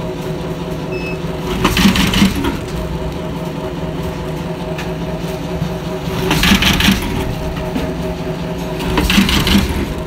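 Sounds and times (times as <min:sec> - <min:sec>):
machine clatter: 0:00.0 - 0:10.0
stitching machine humming: 0:00.7 - 0:10.0.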